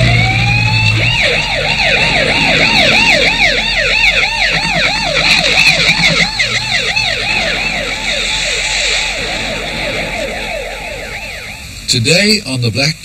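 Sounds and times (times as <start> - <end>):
siren wailing and yelping: 0.0 - 11.9.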